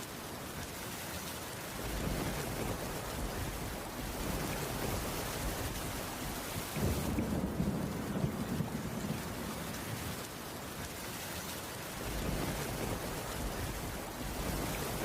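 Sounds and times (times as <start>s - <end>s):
heavy rain on wooden roof: 0.0s - 15.0s.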